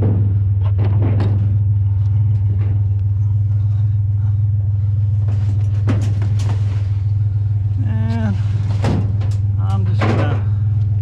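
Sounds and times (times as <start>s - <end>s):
vehicle engine idling: 1.3s - 11.0s.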